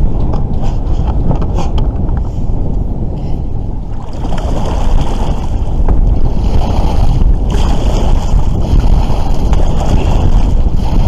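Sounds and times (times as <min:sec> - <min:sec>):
water lapping against hull: 0:00.0 - 0:11.0
wind buffeting microphone: 0:00.0 - 0:11.0.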